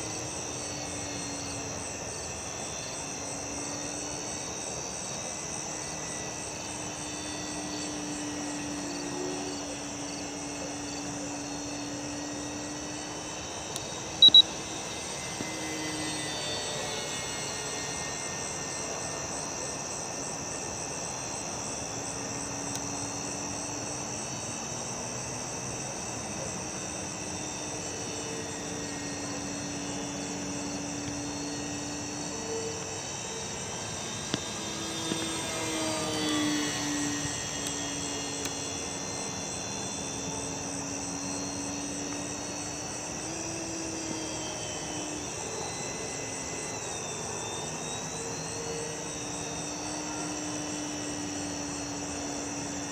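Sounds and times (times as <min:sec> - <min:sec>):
crickets chirping: 0:00.0 - 0:52.9
model plane motor droning: 0:00.0 - 0:52.9.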